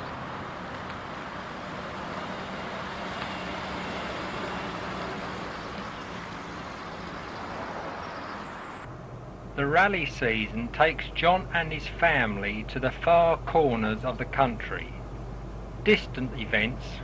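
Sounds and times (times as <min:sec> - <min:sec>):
van engine running: 0:00.0 - 0:17.0.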